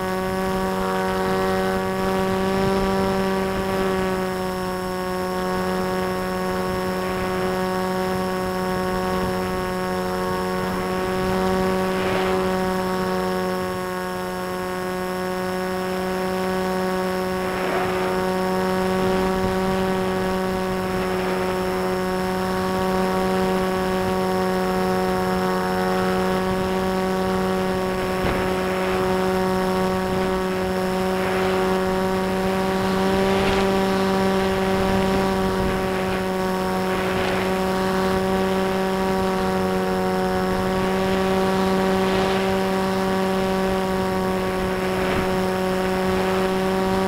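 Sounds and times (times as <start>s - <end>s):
model airplane motor whine: 0.0s - 47.0s
wind noise: 0.0s - 47.0s.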